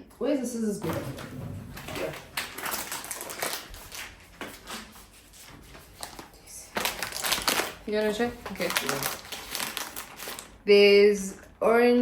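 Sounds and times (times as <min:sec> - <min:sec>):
crinkly packaging rustling: 0:00.8 - 0:10.7.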